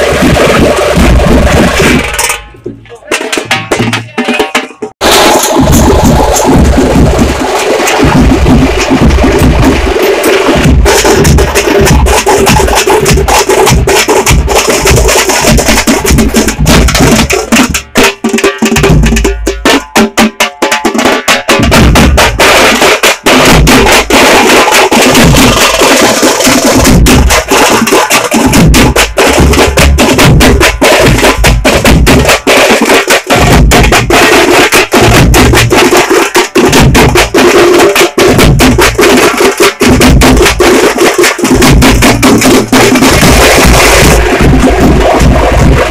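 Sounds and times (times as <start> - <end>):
frame drums beaten fast: 0.0 - 45.9.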